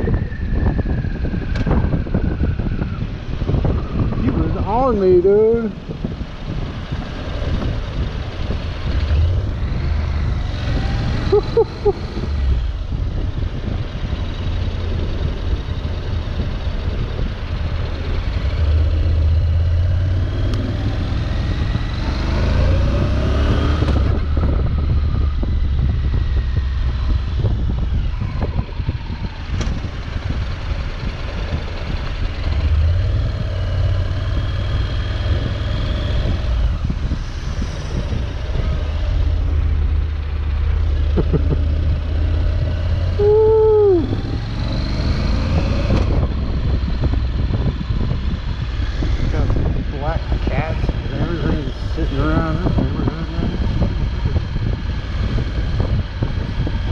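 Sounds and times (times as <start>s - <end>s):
motorcycle engine revving: 5.7s - 56.9s.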